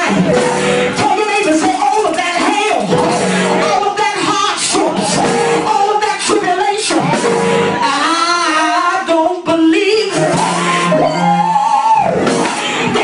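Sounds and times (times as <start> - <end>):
keyboard chords: 0.0 - 13.0
person singing: 0.0 - 13.0.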